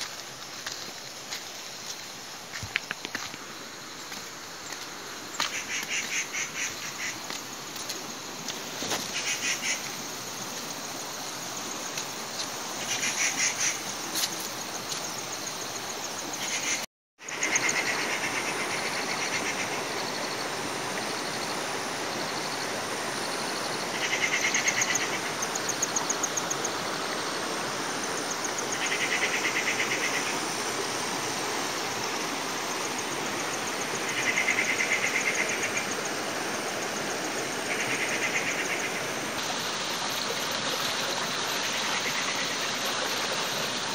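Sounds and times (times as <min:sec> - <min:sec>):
flowing stream water: 0:00.0 - 0:43.9
insects trilling: 0:00.0 - 0:43.9.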